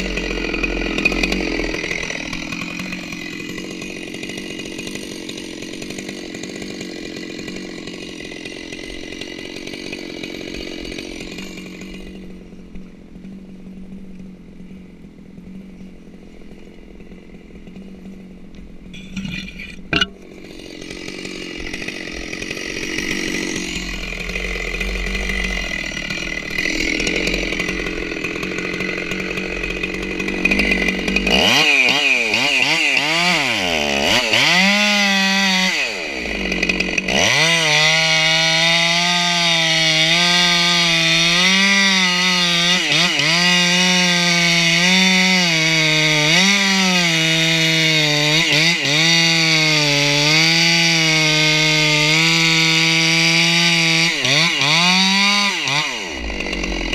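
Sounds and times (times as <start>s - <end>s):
chainsaw cutting wood: 0.0s - 56.9s
chainsaw idling: 0.0s - 56.9s.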